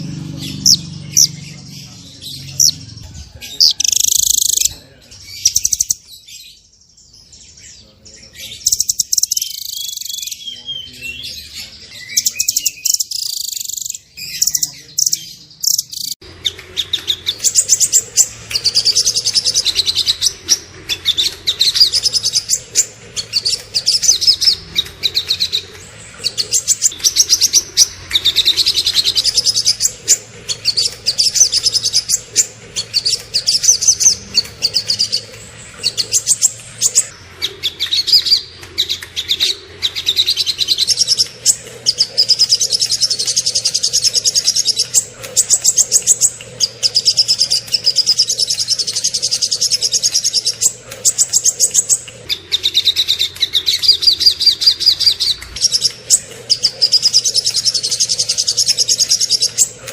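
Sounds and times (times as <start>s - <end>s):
songbird chirps and trills: 0.0s - 59.9s.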